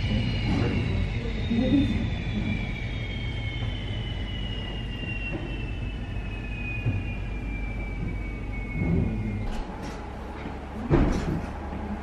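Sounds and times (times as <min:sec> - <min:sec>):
aircraft turbine whine: 0:00.0 - 0:12.0
steady low rumble: 0:00.0 - 0:12.0.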